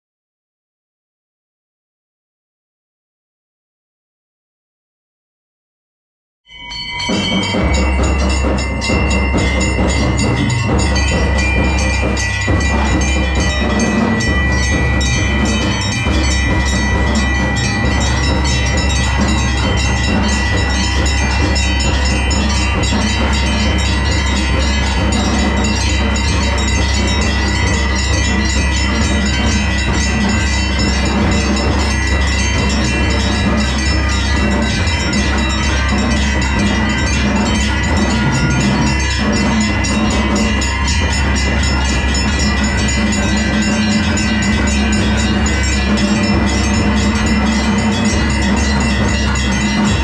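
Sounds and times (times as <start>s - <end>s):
temple bells ringing rapidly: 6.5s - 50.0s.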